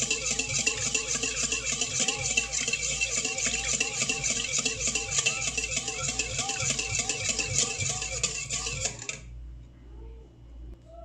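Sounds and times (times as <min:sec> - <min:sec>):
wire whisk beating in metal bowl: 0:00.0 - 0:09.3.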